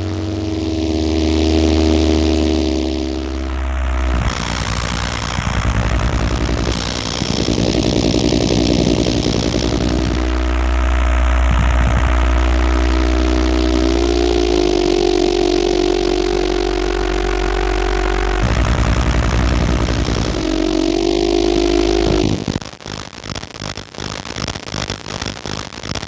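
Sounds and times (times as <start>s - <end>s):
synthesizer drone music: 0.0s - 22.6s.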